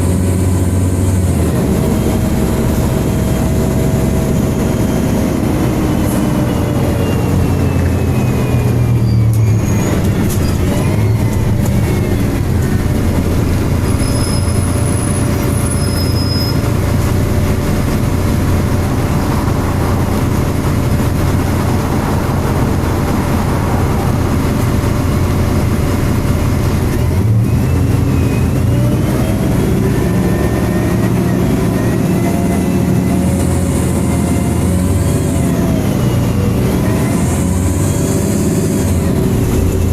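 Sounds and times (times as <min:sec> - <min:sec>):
bus engine and fan whining: 0:00.0 - 0:39.9.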